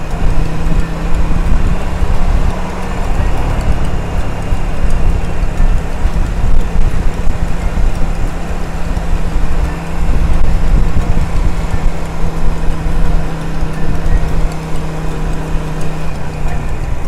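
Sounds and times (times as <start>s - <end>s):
motorcycle engine running: 0.0s - 17.0s
wind buffeting rumble: 0.0s - 17.0s.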